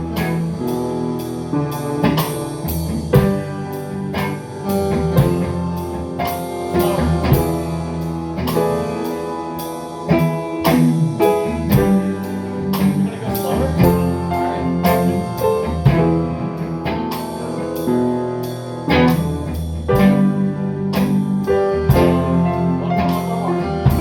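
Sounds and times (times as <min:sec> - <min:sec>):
drum kit beat: 0:00.0 - 0:24.0
guitar chords and notes: 0:00.0 - 0:24.0.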